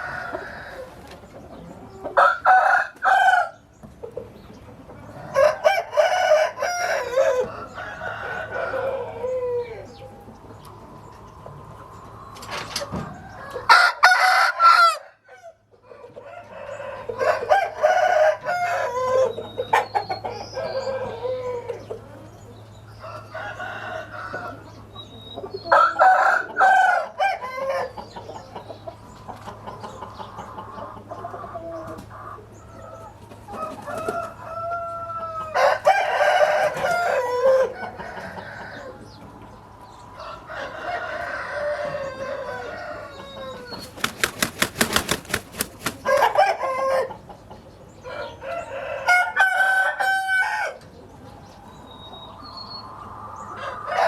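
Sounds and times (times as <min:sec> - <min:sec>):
roosters crowing: 0:00.0 - 0:03.8, 0:05.0 - 0:10.3, 0:11.5 - 0:22.2, 0:22.8 - 0:24.9, 0:25.6 - 0:28.2, 0:29.8 - 0:39.4, 0:40.0 - 0:47.3, 0:48.0 - 0:50.9, 0:53.4 - 0:54.0
chickens clucking: 0:00.0 - 0:54.0.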